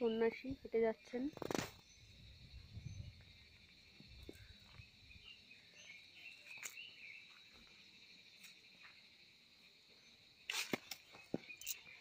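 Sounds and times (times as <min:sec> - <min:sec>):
insect chirps: 0:00.0 - 0:12.0
insects droning: 0:00.0 - 0:12.0.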